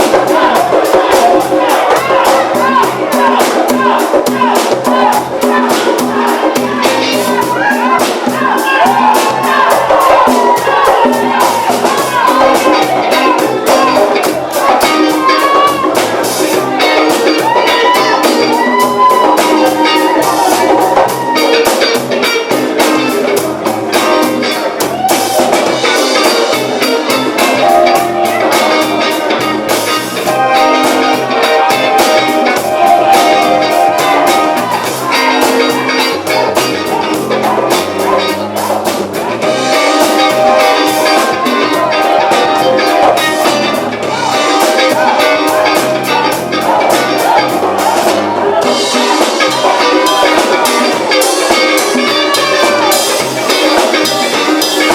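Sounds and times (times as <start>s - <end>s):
drum kit beat: 0.0s - 54.9s
live funk band: 0.0s - 54.9s.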